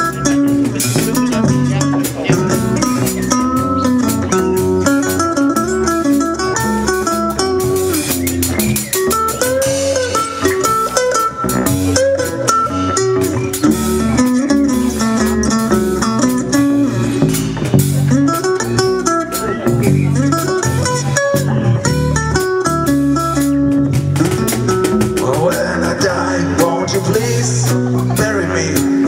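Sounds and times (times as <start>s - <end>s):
blues band playing: 0.0s - 29.0s
lead guitar with bent notes: 0.0s - 29.0s.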